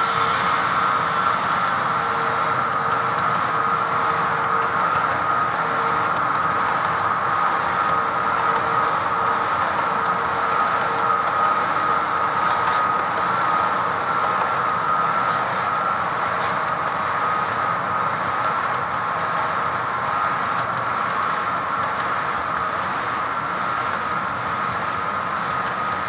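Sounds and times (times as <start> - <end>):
model train cars rolling: 0.0 - 26.0.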